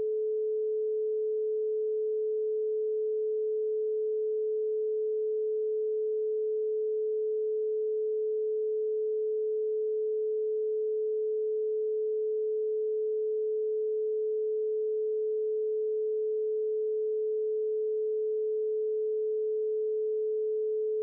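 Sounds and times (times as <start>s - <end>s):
pure sine tone: 0.0s - 21.0s.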